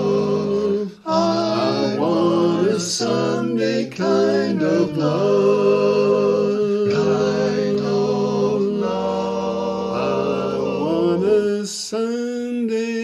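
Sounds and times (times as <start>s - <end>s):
male voices singing harmony: 0.0s - 13.0s.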